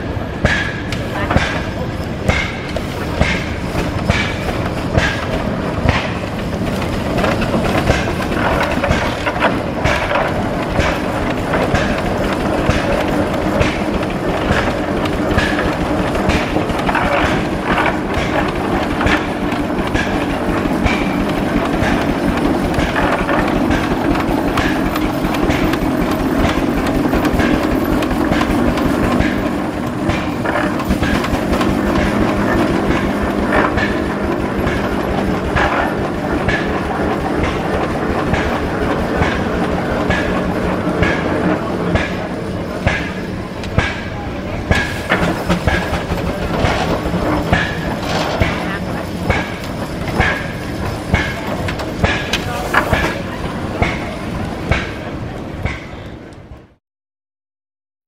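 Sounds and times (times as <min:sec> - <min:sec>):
mechanical knocks and clanks: 0:00.0 - 0:56.2
steam traction engine running: 0:00.0 - 0:56.8.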